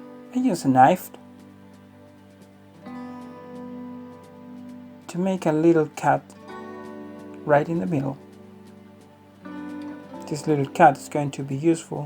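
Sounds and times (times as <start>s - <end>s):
soft acoustic guitar music: 0.0s - 12.0s.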